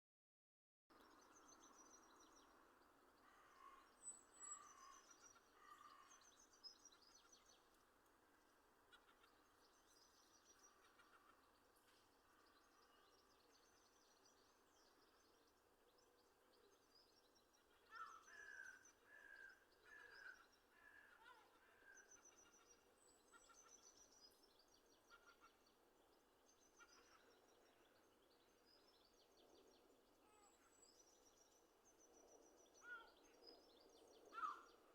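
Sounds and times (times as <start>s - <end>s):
forest birds singing: 0.9s - 34.9s.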